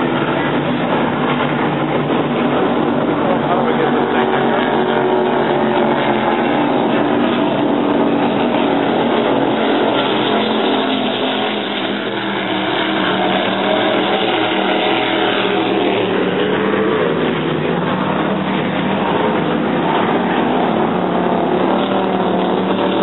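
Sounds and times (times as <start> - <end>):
powerboat engines droning: 0.0 - 23.0.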